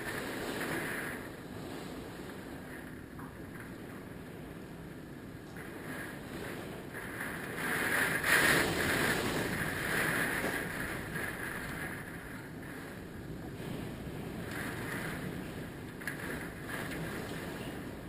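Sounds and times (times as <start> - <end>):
wind gusting on microphone: 0.0 - 18.0.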